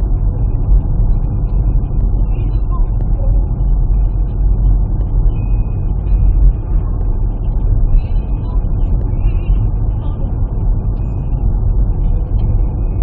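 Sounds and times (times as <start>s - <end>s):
car driving rumble inside cabin: 0.0s - 13.0s.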